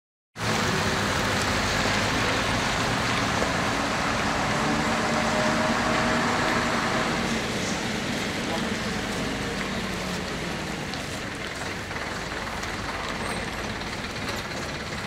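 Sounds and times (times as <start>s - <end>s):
bus engine running: 0.4s - 15.0s.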